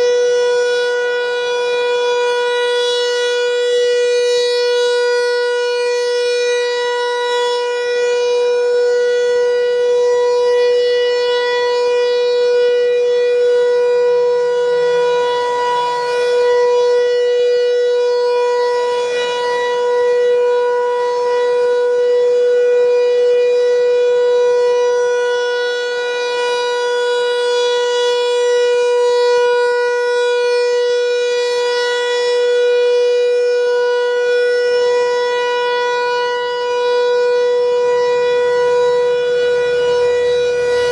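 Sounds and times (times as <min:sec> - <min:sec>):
rotating warning siren steady tone: 0:00.0 - 0:40.9.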